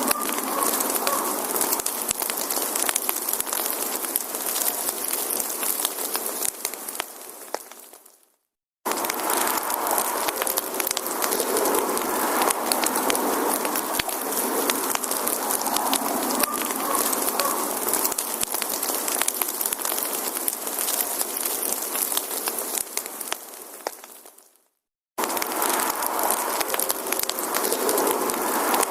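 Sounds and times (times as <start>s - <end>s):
fire hiss: 0.0s - 8.1s, 8.9s - 24.4s, 25.2s - 28.9s
campfire crackling and popping: 0.0s - 8.3s, 8.9s - 28.9s.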